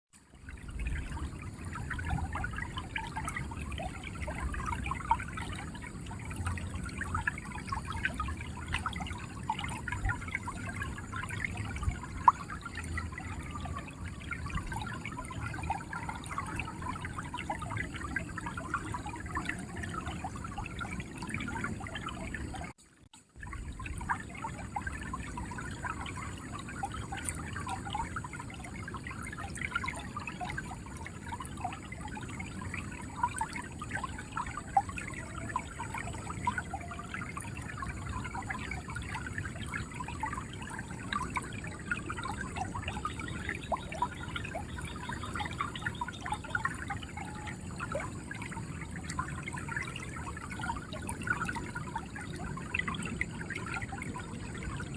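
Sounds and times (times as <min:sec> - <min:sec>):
river water running and gurgling: 0:00.2 - 0:54.9.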